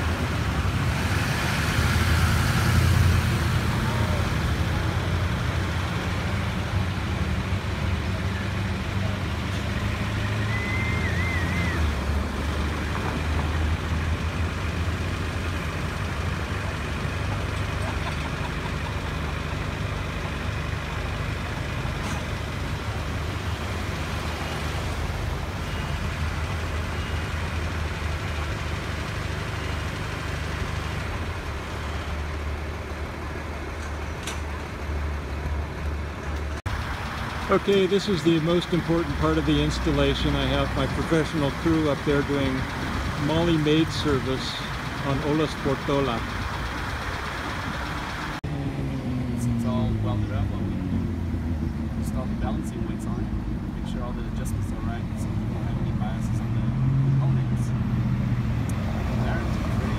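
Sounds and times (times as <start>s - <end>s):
truck engine idling: 2.8s - 59.9s.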